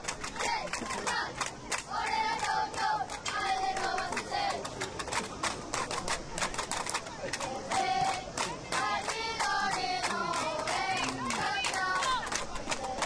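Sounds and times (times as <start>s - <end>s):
crowd clapping: 0.0s - 13.0s.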